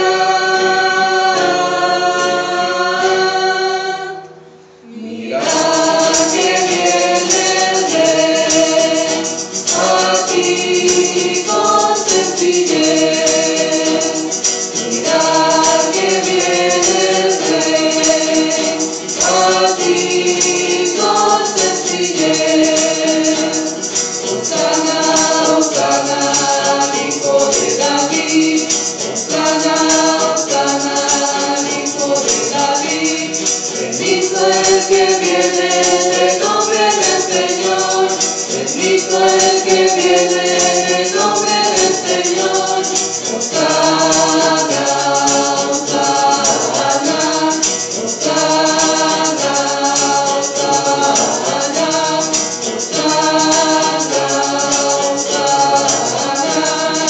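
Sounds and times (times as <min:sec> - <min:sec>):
acoustic guitars strumming: 0:00.0 - 0:57.0
choir singing a hymn: 0:00.0 - 0:57.0.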